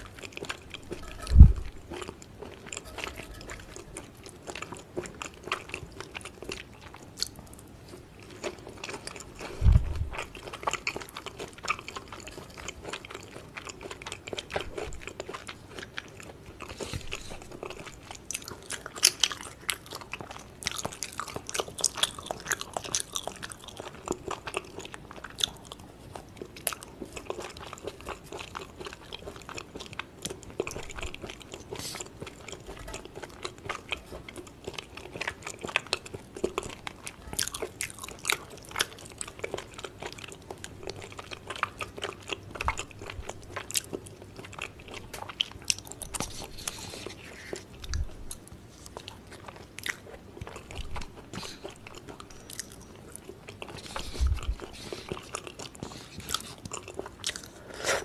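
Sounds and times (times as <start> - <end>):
wet chewing mouth clicks: 8.2 - 58.0.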